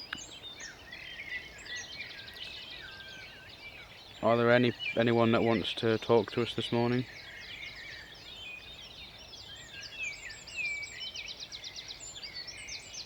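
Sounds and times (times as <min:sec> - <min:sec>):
songbirds whistling and chirping: 0:00.0 - 0:13.0.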